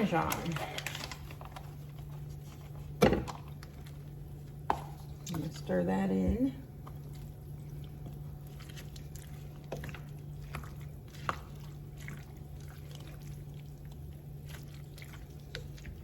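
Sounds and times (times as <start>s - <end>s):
steady low hum: 0.0s - 16.0s
wet squishes of stirring: 0.0s - 16.0s.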